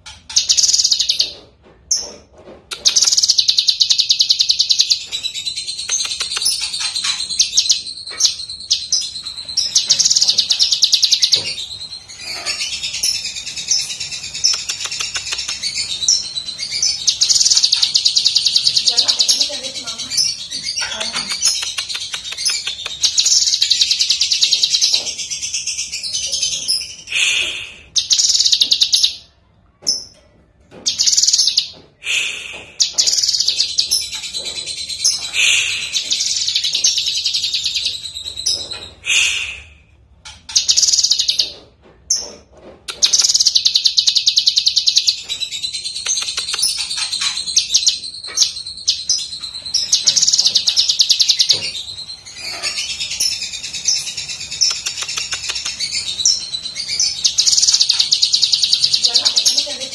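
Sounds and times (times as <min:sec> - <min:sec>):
bird singing chattering bursts: 0:00.2 - 0:01.4, 0:02.8 - 0:27.0, 0:27.9 - 0:29.2, 0:30.9 - 0:31.8, 0:32.8 - 0:38.8, 0:40.4 - 0:41.5, 0:42.9 - 0:59.9.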